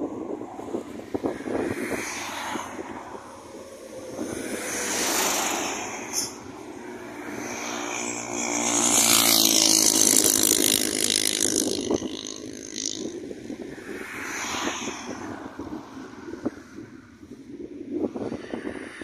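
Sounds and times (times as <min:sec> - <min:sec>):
vehicle passing on highway: 0:00.0 - 0:19.0.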